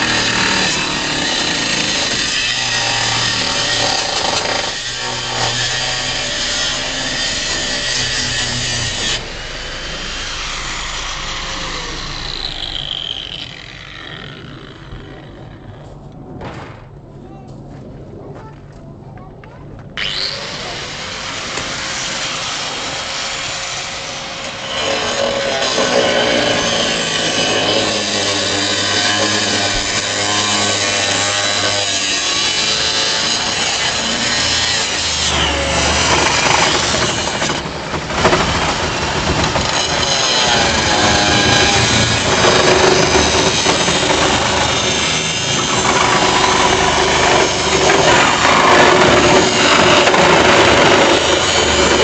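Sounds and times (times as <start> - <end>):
power tool cutting steel: 0.0 - 15.4, 20.0 - 52.0.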